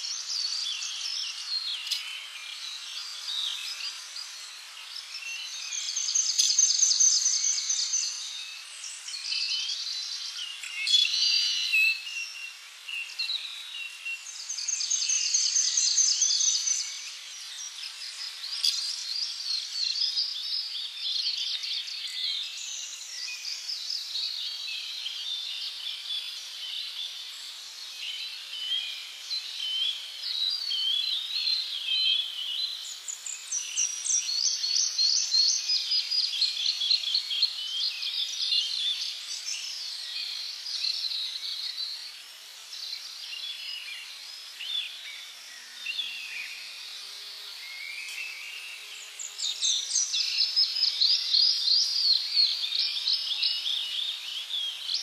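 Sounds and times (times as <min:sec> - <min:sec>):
tropical birds chirping and singing: 0:00.0 - 0:55.0.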